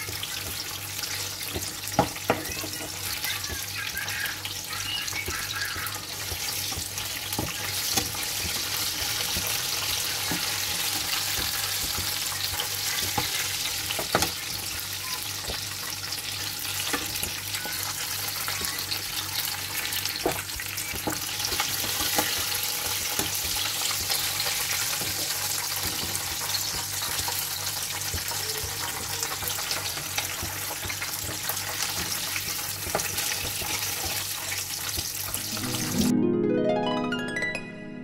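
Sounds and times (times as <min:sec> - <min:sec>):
deep-frying sizzling hiss: 0:00.0 - 0:36.0.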